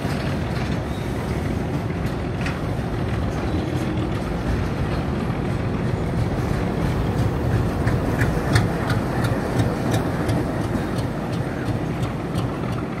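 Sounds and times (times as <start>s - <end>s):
diesel locomotive engine running: 0.0s - 13.0s
wagon wheels rumbling on rails: 0.0s - 13.0s.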